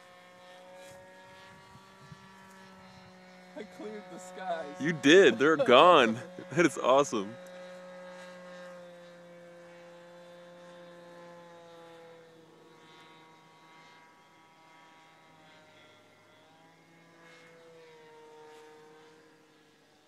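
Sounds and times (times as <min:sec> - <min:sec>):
model plane engine buzzing: 0:00.0 - 0:20.0.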